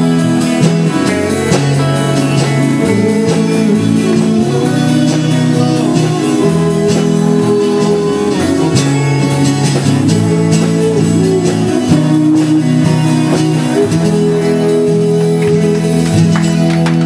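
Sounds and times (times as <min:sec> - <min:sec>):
acoustic guitars strummed: 0:00.0 - 0:17.0.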